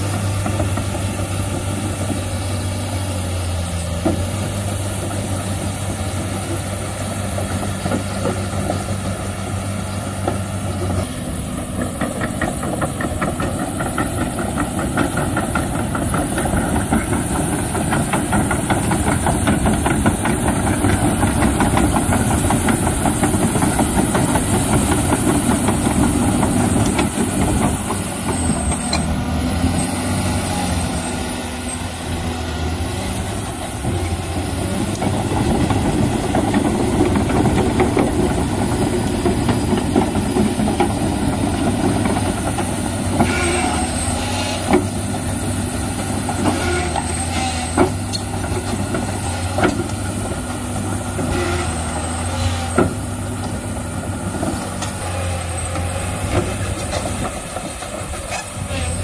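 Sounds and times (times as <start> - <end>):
diesel excavator engine: 0.0 - 59.0.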